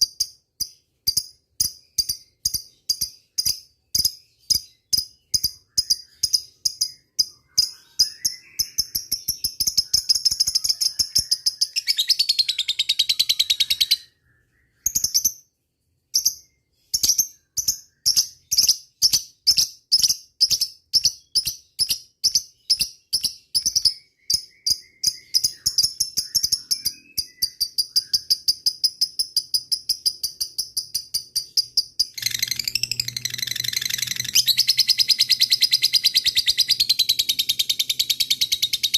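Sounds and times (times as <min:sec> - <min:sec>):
lovebird chattering trill: 0:00.0 - 0:14.1, 0:17.0 - 0:38.9.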